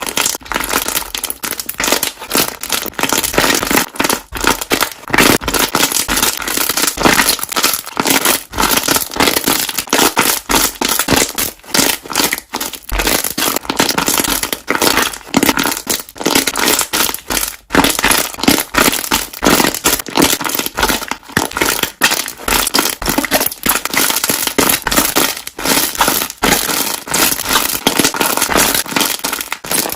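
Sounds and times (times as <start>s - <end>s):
air bubbles popping: 0.0s - 29.9s.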